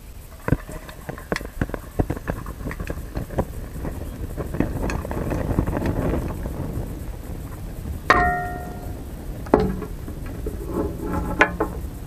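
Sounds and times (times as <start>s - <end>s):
sharp pops and crackles: 0.0s - 10.7s
molten metal pouring: 0.0s - 12.0s.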